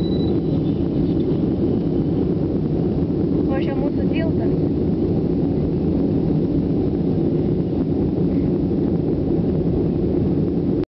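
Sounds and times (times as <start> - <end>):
jet engines roaring in cabin: 0.0 - 10.8.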